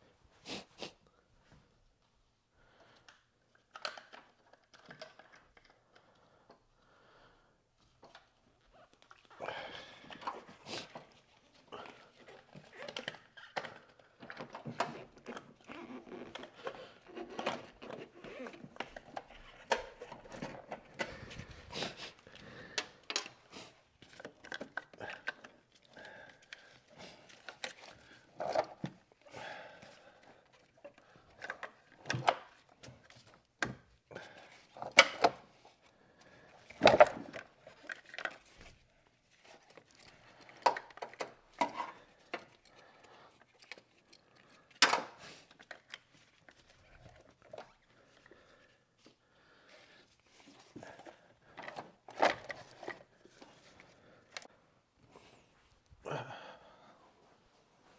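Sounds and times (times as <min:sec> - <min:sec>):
objects being handled: 0:03.0 - 0:06.7, 0:07.8 - 0:56.0.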